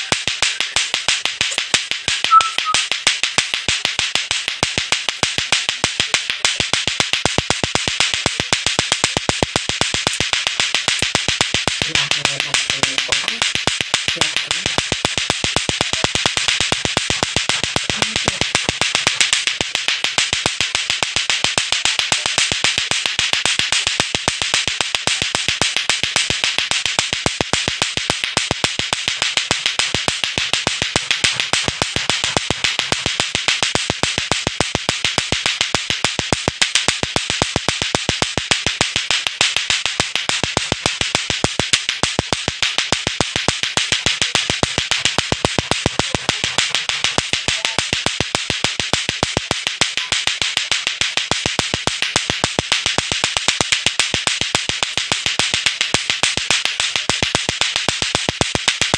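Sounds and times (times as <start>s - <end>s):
plastic clacker balls clacking: 0.0s - 58.9s.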